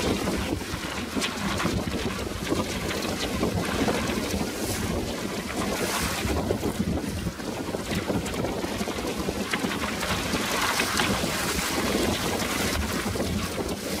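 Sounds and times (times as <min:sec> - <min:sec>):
choppy water splashing: 0:00.0 - 0:14.0
wind buffeting microphone: 0:00.0 - 0:14.0.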